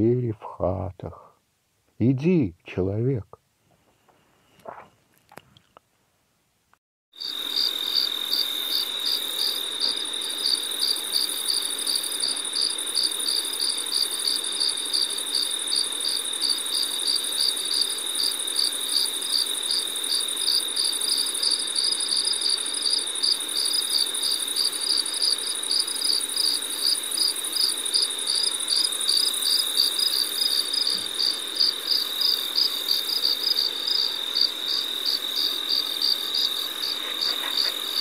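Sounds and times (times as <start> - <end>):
insects pulsing chirp: 7.2 - 38.0
insects trilling: 7.2 - 38.0.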